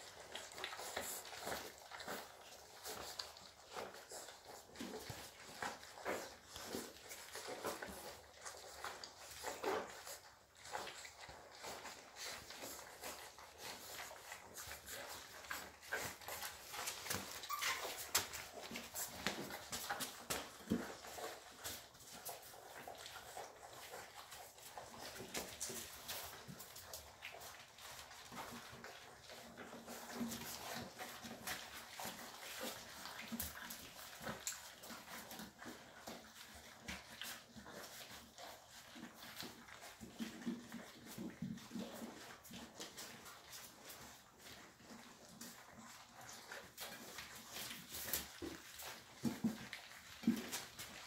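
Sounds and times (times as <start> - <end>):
puppies lapping from metal pan: 0.0 - 51.0
puppy whimpers: 0.0 - 51.0.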